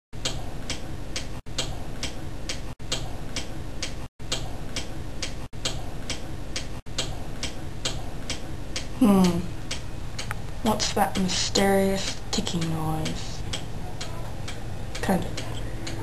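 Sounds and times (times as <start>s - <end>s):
clock-like ticking: 0.2s - 16.0s
low hum: 0.2s - 16.0s.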